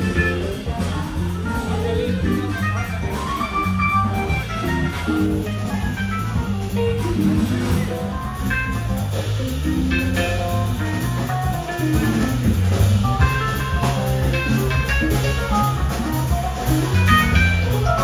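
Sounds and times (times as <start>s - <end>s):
drum kit: 0.0s - 18.0s
electric keyboard: 0.0s - 18.0s
low bass line: 0.0s - 18.0s.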